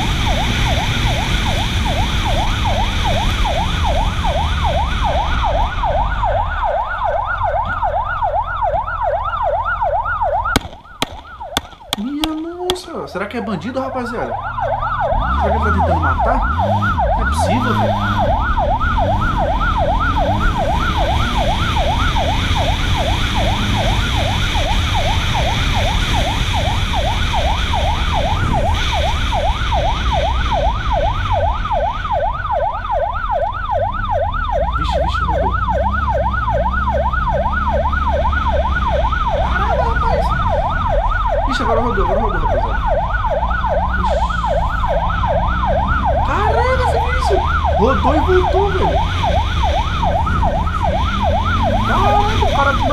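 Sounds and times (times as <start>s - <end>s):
police siren yelping: 0.0s - 52.9s
motorcycle engine rumble: 4.3s - 22.4s, 26.9s - 52.9s.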